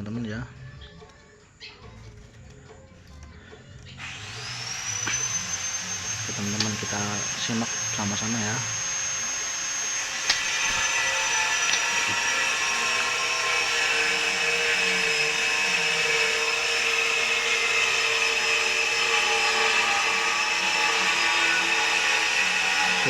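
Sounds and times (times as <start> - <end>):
motor whining drone: 3.8 - 23.0.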